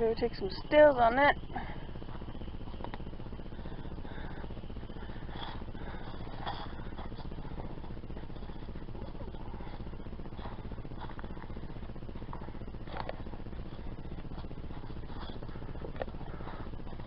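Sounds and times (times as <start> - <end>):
low rumble: 0.0 - 17.0
footsteps crunching on trail: 1.5 - 17.0.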